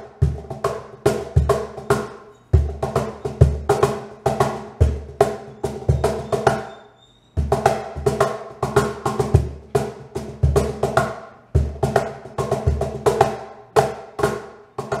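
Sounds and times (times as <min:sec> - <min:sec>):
cajon groove with snare buzz: 0:00.0 - 0:06.8, 0:07.4 - 0:15.0.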